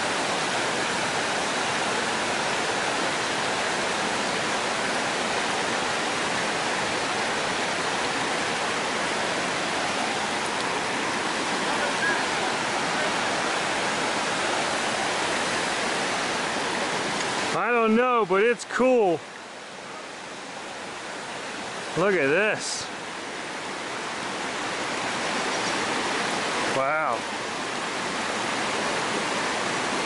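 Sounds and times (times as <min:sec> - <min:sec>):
creek water rushing over rocks: 0:00.0 - 0:30.0.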